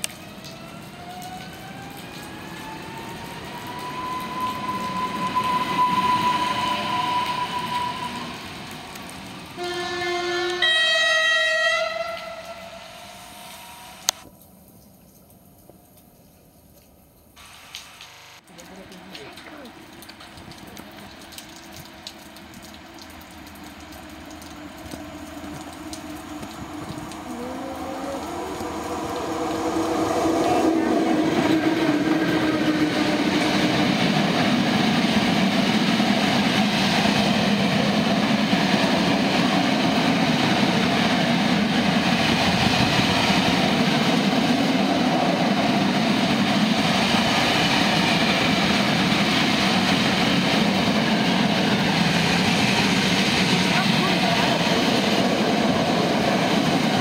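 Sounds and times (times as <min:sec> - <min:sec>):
freight train passing: 0:00.0 - 0:14.2, 0:20.8 - 0:57.0
wheels rumbling on rail: 0:00.0 - 0:14.3, 0:18.7 - 0:57.0.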